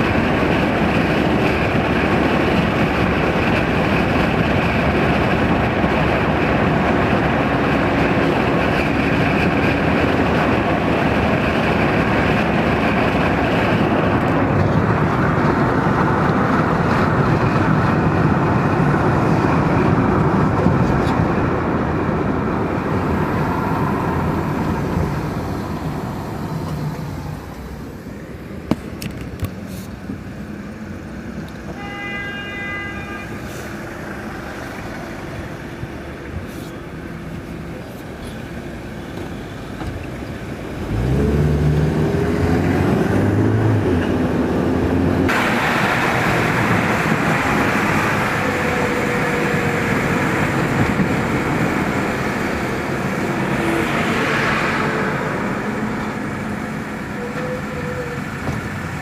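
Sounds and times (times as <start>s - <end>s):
car engine idling and accelerating: 0.0s - 31.8s, 33.5s - 59.0s
road and wind noise: 0.0s - 59.0s.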